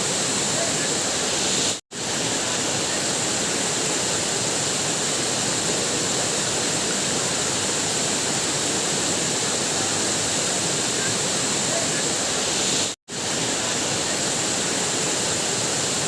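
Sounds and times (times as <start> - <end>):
waterfall: 0.0 - 16.0.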